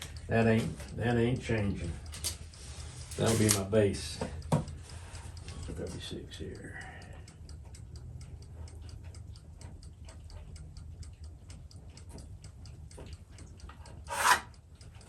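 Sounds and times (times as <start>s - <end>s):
mechanical ticking: 0.0s - 15.0s.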